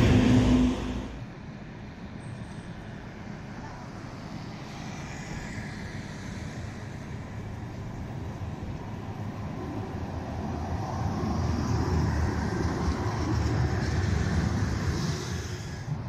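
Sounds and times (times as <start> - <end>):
tram rumbling on rails: 0.0 - 5.2, 6.0 - 16.0.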